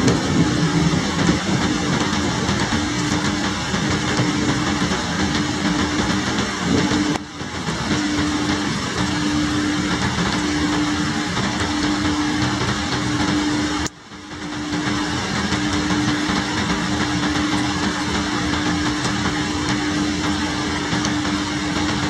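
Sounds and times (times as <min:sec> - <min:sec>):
heavy rain: 0:00.0 - 0:22.0
low mechanical hum: 0:00.0 - 0:22.0.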